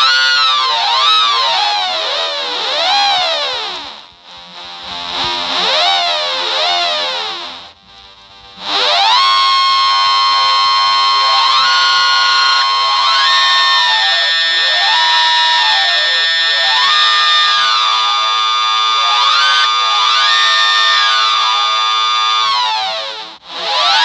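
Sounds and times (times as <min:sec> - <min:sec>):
sliding synthesizer tones: 0:00.0 - 0:07.6, 0:08.5 - 0:24.0.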